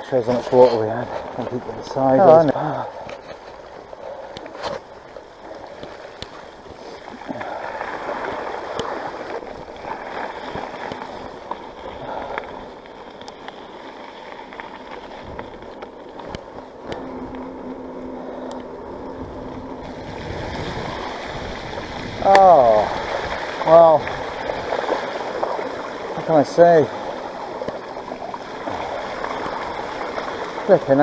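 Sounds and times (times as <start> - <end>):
bike tyres splashing through water: 4.6 - 31.0.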